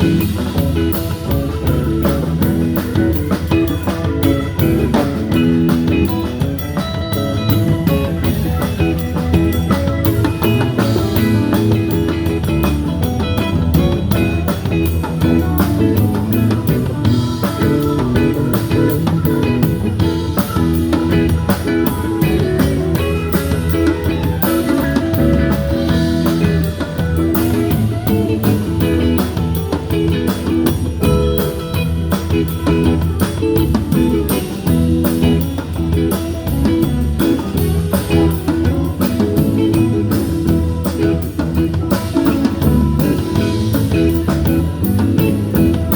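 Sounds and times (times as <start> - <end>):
bass guitar: 0.0 - 45.9
drum kit beat: 0.0 - 45.9
electric guitar: 0.0 - 45.9.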